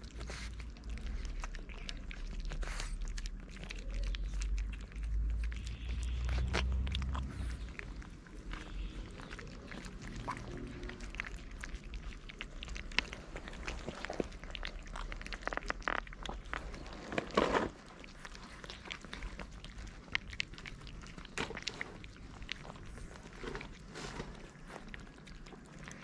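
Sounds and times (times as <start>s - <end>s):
cats crunching kibble: 0.0s - 26.0s.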